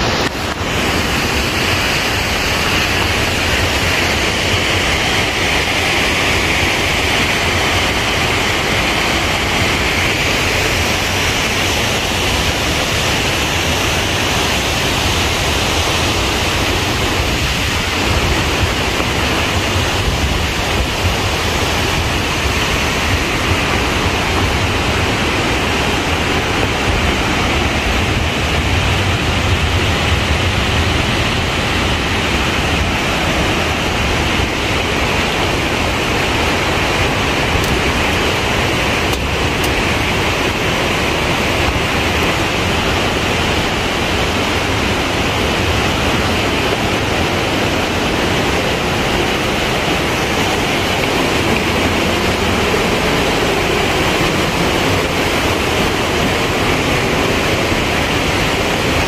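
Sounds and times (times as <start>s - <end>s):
water rushing over a dam: 0.0s - 59.0s.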